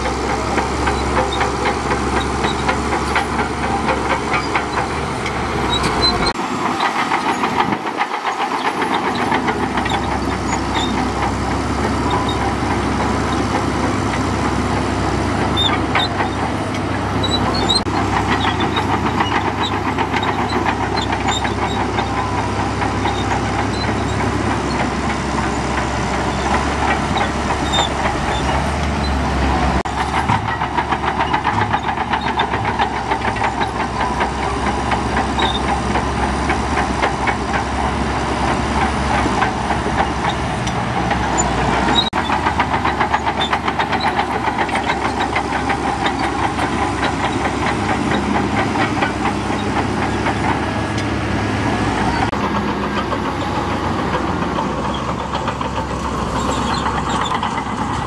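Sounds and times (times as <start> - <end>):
bulldozer diesel engine rattling: 0.0 - 58.0.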